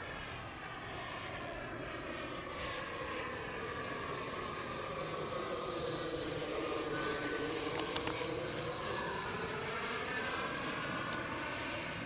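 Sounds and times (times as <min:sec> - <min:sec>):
model jet ducted fan whine: 0:00.0 - 0:12.0.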